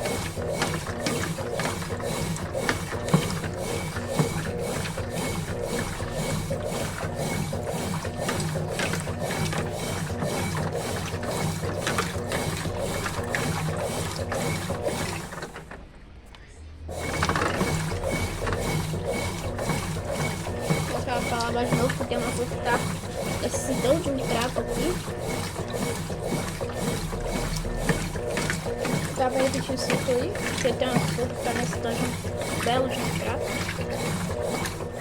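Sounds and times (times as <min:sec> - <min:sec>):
washing machine agitating: 0:00.0 - 0:15.9, 0:16.8 - 0:35.0.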